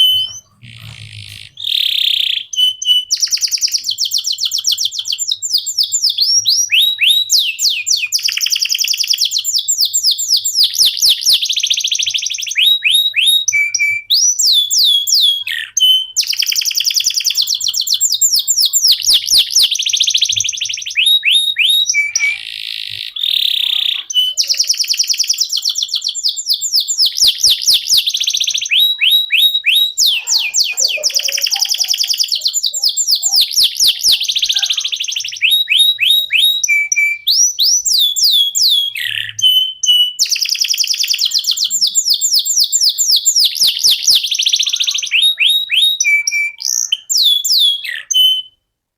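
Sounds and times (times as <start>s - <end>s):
canary singing rapid trills: 0.0s - 48.6s.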